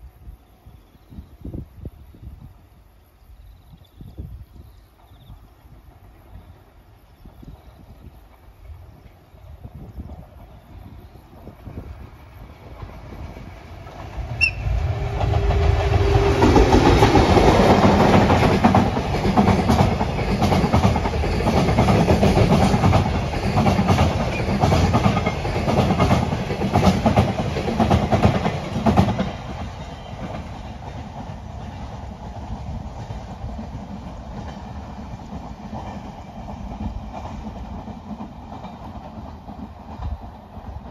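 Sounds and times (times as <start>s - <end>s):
freight train passing: 4.2s - 40.9s.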